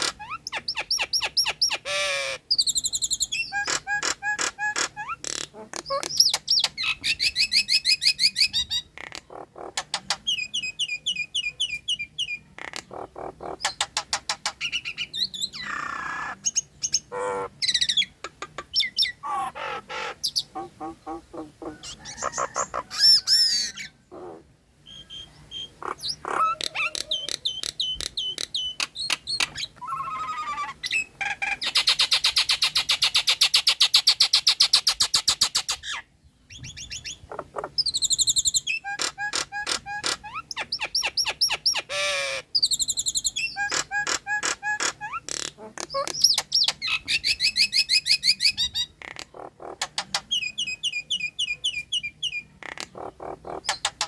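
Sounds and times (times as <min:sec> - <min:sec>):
myna whistling and chattering: 0:00.0 - 0:08.8, 0:09.7 - 0:35.7, 0:36.6 - 0:48.9.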